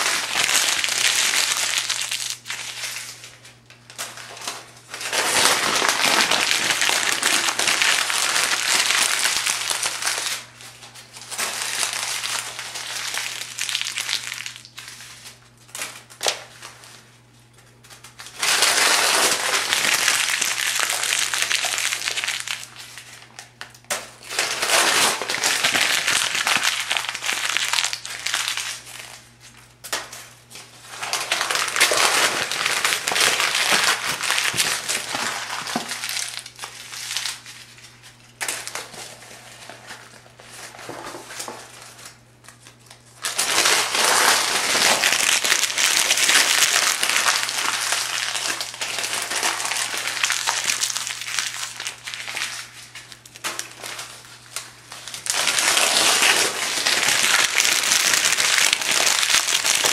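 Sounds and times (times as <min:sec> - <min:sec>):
paper pages crumpling: 0:00.0 - 0:15.4, 0:17.8 - 0:29.7, 0:30.6 - 0:59.9.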